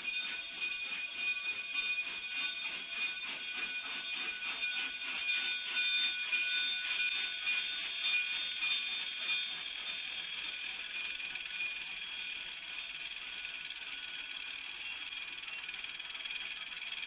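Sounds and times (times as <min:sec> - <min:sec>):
train wheels squealing on a curve: 0:00.0 - 0:17.0
wheels clicking over rail joints: 0:00.0 - 0:17.0.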